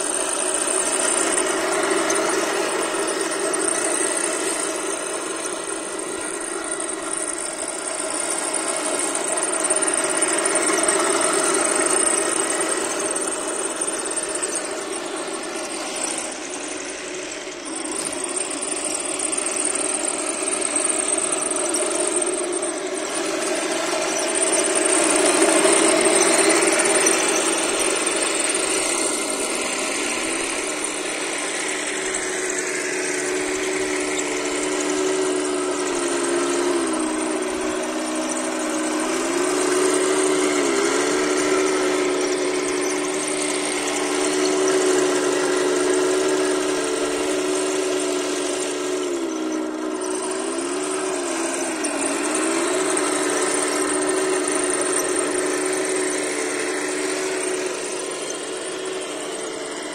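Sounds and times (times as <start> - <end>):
toy tank motor drone: 0.0 - 59.9
whir of drive and tracks: 0.0 - 59.9.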